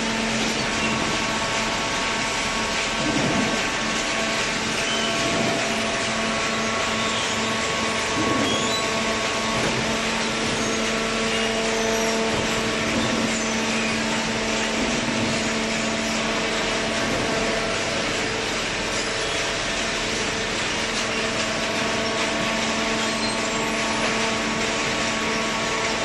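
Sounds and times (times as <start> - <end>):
motor and pump humming: 0.0 - 26.0.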